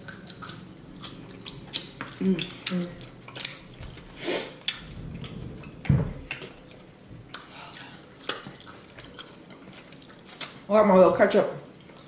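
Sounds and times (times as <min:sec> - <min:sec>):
wet chewing and lip-smacking: 0:00.0 - 0:10.7, 0:11.6 - 0:12.0.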